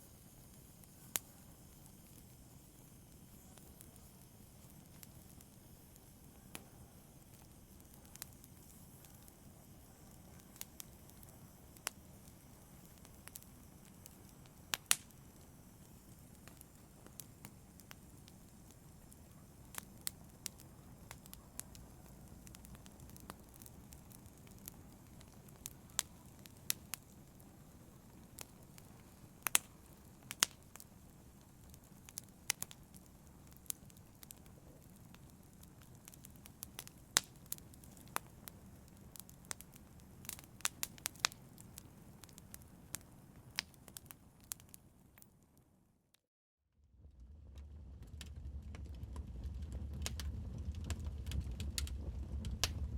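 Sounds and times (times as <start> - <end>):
low rumble of flames: 0.0 - 45.6, 46.7 - 52.9
wood fire crackling: 0.0 - 45.7, 46.9 - 52.9.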